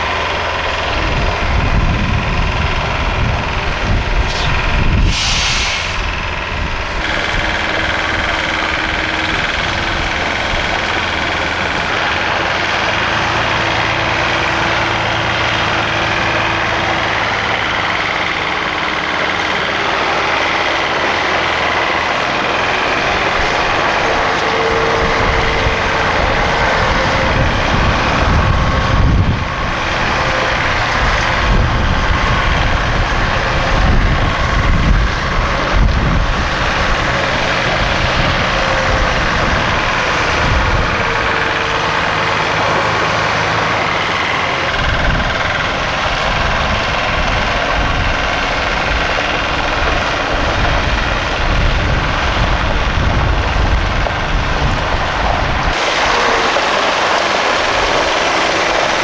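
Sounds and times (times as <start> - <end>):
lorry diesel engine running: 0.0 - 59.0.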